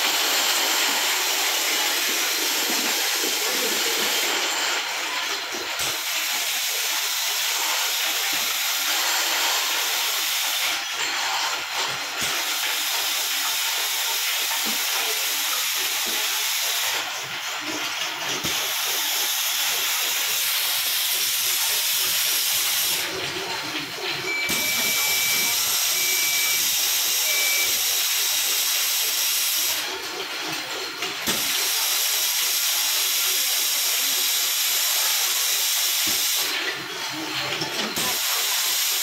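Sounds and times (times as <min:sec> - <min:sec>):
machinery hissing: 0:00.0 - 0:30.0, 0:31.2 - 0:39.0.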